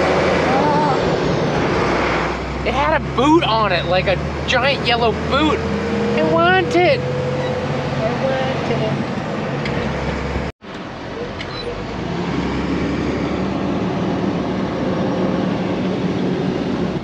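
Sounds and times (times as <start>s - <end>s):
road and engine noise in cab: 0.0s - 17.0s.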